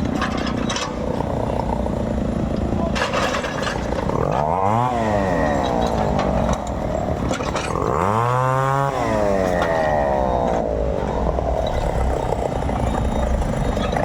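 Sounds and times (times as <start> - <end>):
chainsaw revving: 1.0 - 2.8, 3.8 - 14.0.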